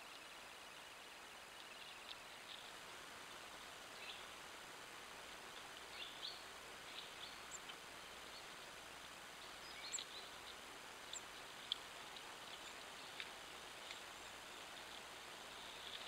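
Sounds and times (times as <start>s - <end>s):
small birds chirping: 0.0s - 4.6s, 5.2s - 16.0s
steady hiss: 0.0s - 16.0s.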